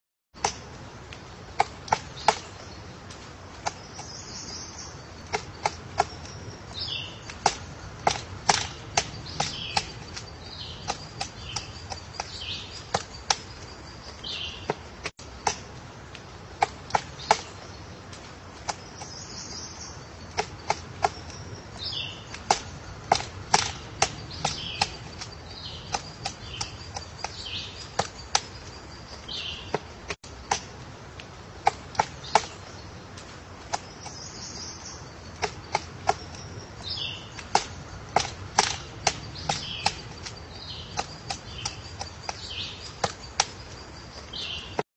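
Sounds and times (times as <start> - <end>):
faint songbird calls: 0.4 - 44.8
woodpecker knocking on wood: 0.4 - 44.8.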